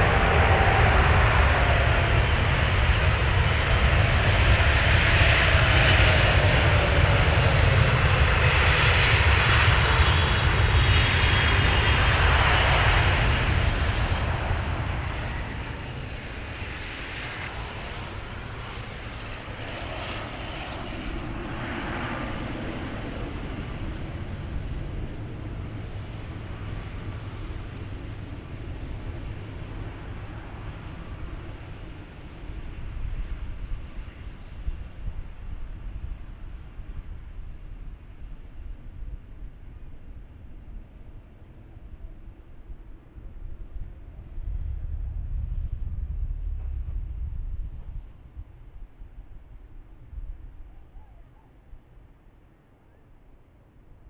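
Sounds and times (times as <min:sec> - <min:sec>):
jet engines passing: 0:00.0 - 0:54.0.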